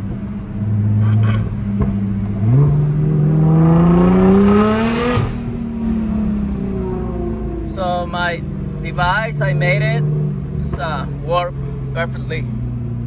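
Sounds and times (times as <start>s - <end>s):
car engine under hard throttle: 0.0s - 13.0s.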